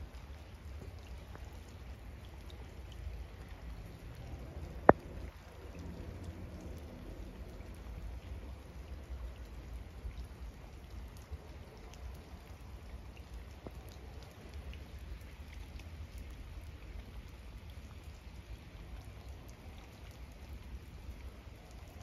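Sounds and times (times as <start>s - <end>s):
rain pattering on brick paving: 0.0s - 22.0s.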